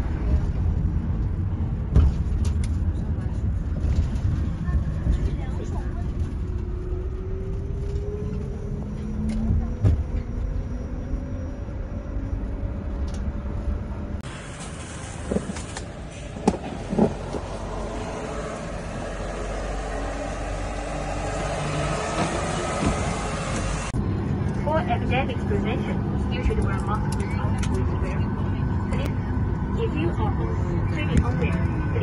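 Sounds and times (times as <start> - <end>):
van engine and road noise: 0.0 - 32.0.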